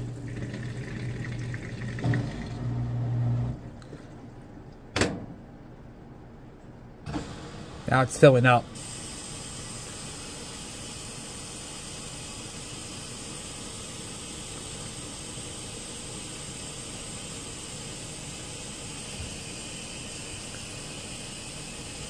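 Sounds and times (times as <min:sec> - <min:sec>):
water running into washing machine: 0:00.0 - 0:04.5, 0:08.8 - 0:22.0.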